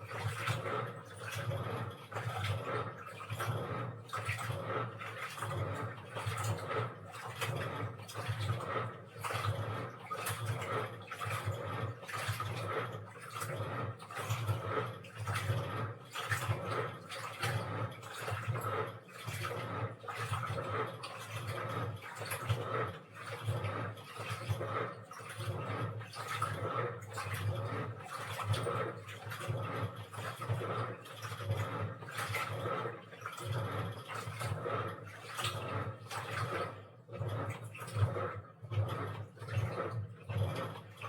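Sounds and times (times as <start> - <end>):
washing machine drum churning: 0.0 - 41.0.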